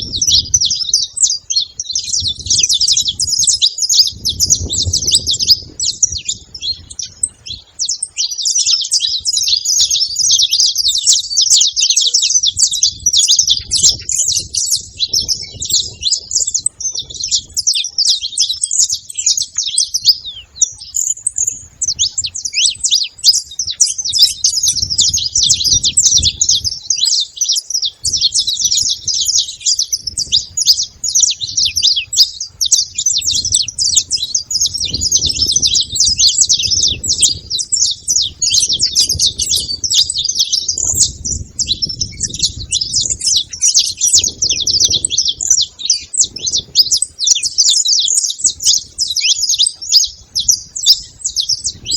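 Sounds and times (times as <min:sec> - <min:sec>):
finches chirping: 0:00.0 - 0:51.9.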